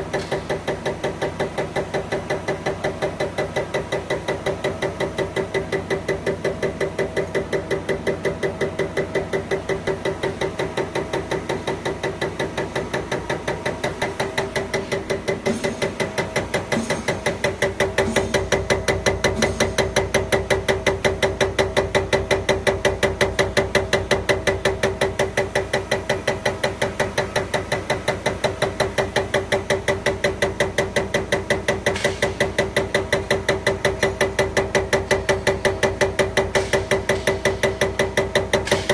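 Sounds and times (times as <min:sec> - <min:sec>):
fuel injector rapid clicking: 0:00.0 - 0:38.9
test bench humming: 0:00.0 - 0:38.9.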